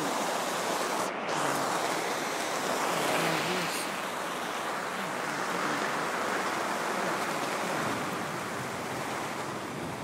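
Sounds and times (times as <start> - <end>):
rain: 0.0 - 10.0
wind: 0.0 - 10.0.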